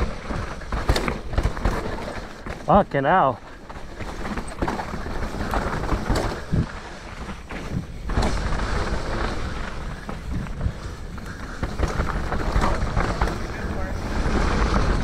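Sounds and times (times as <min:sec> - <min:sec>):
bike knocking and rattling: 0:00.0 - 0:15.0
tyres on wet dirt: 0:00.0 - 0:15.0.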